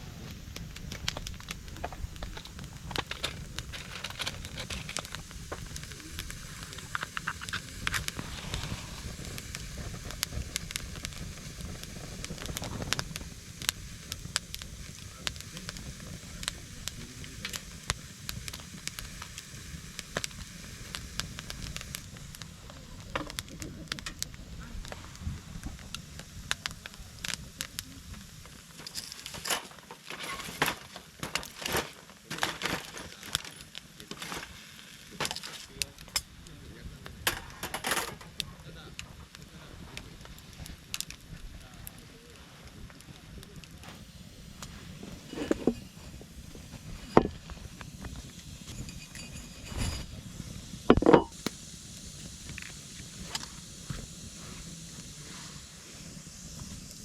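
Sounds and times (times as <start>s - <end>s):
low steady hiss: 0.0s - 57.0s
wood fire crackling: 0.0s - 57.0s.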